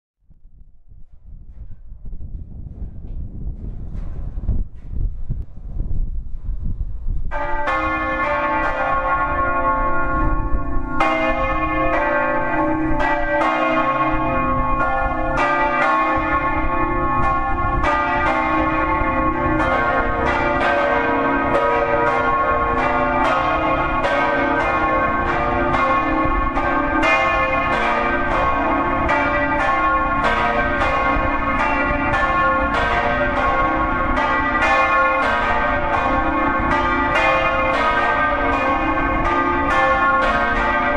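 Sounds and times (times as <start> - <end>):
church bells ringing: 7.3 - 40.9.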